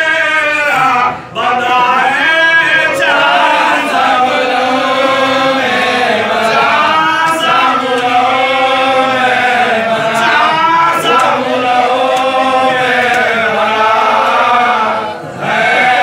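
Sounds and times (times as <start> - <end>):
men chanting: 0.0 - 16.0.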